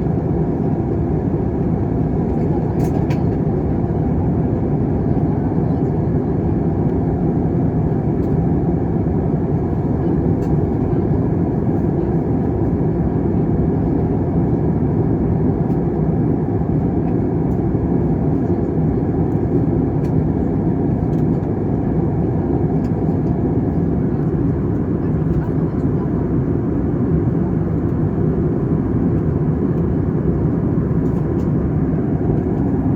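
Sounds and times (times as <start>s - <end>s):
airliner cabin rumble: 0.0s - 32.9s.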